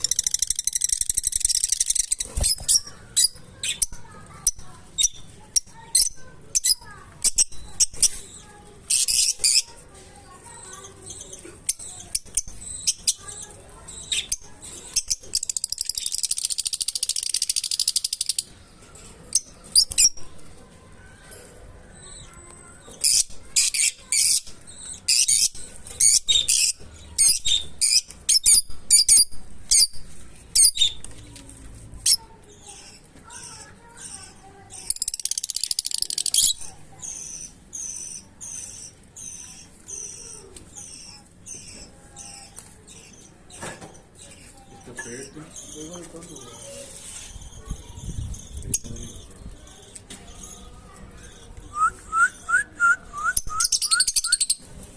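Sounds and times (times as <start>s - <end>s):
lovebirds chirping: 0.0s - 20.6s, 21.2s - 54.7s
parrot rattling chatter: 0.0s - 29.9s, 32.0s - 51.3s.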